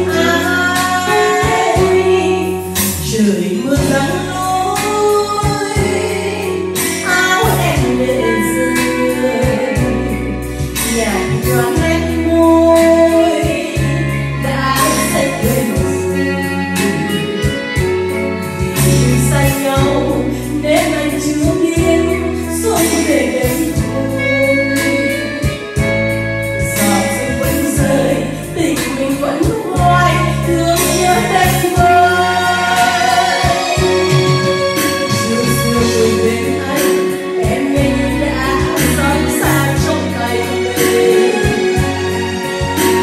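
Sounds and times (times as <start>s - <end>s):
backing music with beat: 0.0s - 43.0s
woman singing into microphone: 0.0s - 43.0s.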